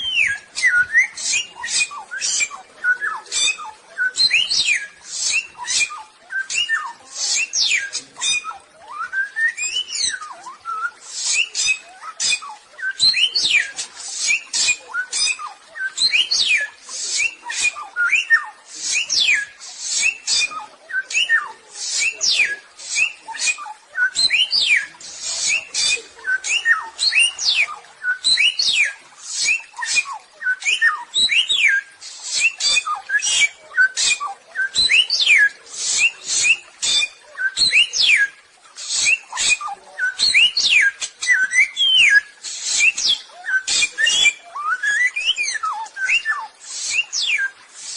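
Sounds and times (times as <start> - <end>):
bird whistling and chattering: 0.0 - 47.9.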